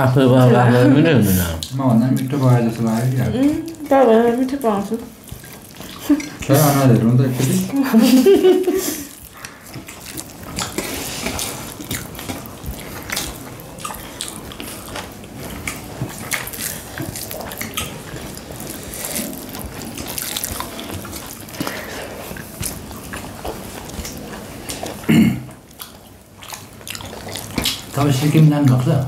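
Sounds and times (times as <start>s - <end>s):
mouths chewing: 0.0s - 29.0s
hands mixing food wet clicks: 1.4s - 29.0s.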